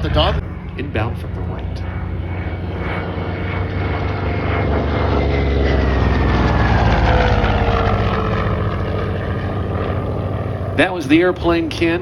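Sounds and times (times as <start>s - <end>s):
propeller plane engine passing: 0.0s - 12.0s.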